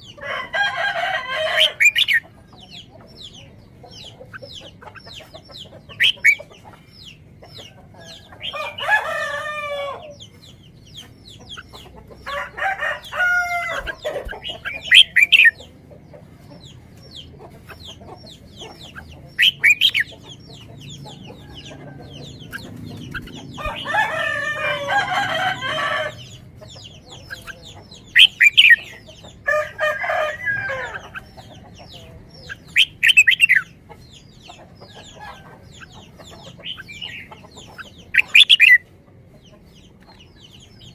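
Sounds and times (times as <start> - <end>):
birds calling long pitched calls: 0.0 - 39.0.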